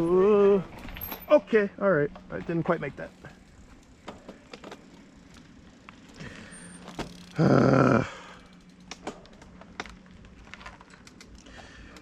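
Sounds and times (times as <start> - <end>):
bike rattling over dirt trail: 0.0 - 12.0.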